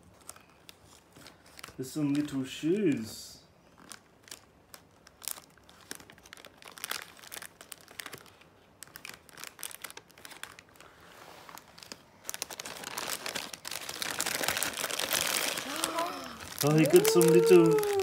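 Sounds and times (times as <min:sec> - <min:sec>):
foil gift wrap crinkling: 0:00.0 - 0:03.0, 0:03.8 - 0:18.0.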